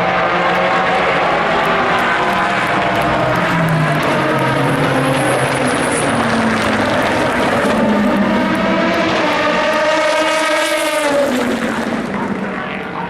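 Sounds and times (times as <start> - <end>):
race car engines: 0.0 - 13.0
race car passing: 0.0 - 13.0.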